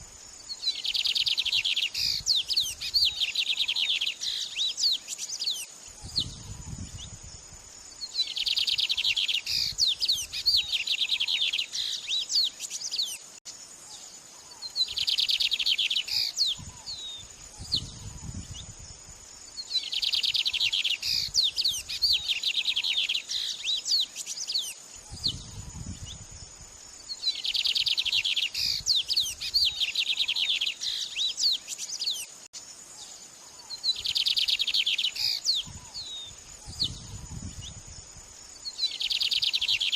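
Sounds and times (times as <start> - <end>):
steady high hiss: 0.0 - 39.9
songbird trilling and chirping: 0.4 - 39.9.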